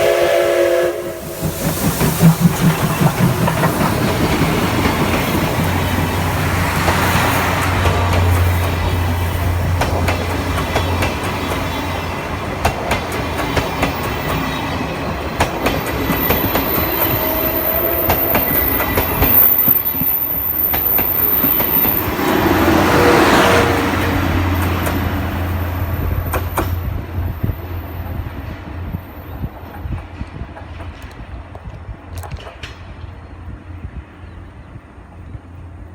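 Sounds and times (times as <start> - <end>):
steam train rolling past: 0.0 - 35.9
wheels clicking over rail joints: 1.2 - 23.1, 24.0 - 27.6, 28.2 - 35.9.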